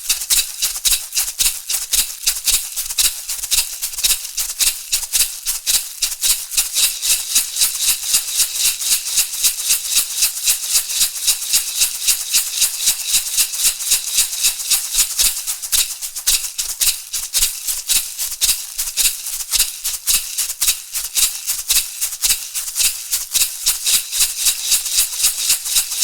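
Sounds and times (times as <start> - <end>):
rattle shaken rhythmically: 0.0 - 26.0.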